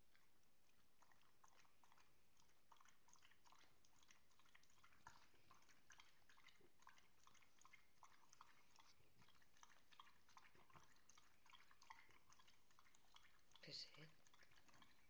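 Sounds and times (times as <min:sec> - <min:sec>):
dog chewing food: 0:00.0 - 0:15.0.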